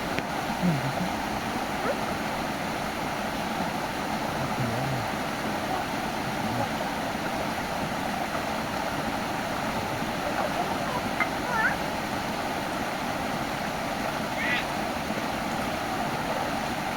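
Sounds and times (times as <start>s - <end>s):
stream water rushing: 0.0s - 16.9s.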